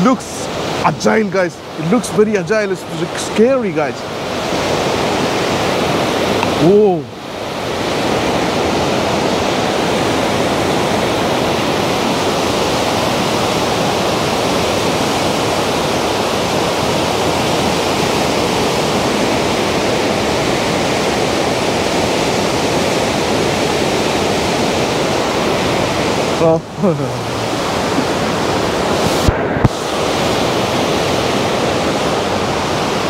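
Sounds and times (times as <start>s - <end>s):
white-water rapids rushing: 0.0s - 33.0s.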